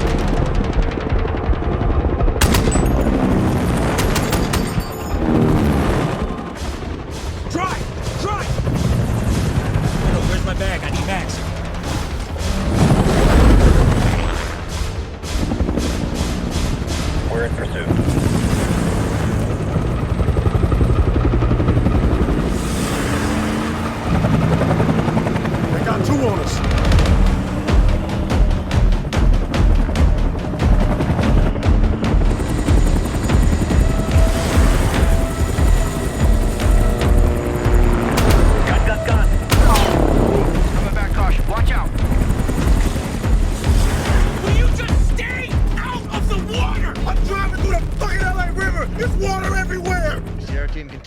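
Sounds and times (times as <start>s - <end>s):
rapid gunshots: 0.0s - 50.6s
helicopter rotor beating: 0.0s - 51.0s
vehicle engines running hard: 0.0s - 51.0s.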